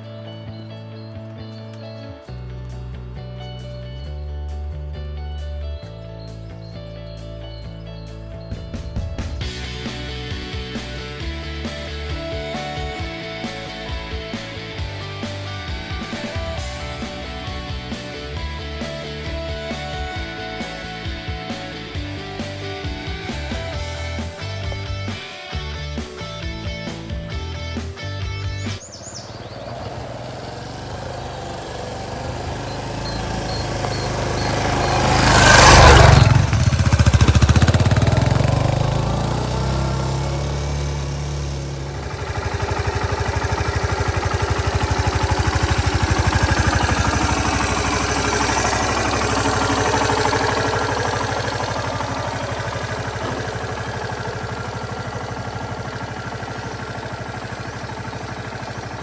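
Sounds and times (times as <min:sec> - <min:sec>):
motorcycle engine running: 0:02.2 - 0:59.0.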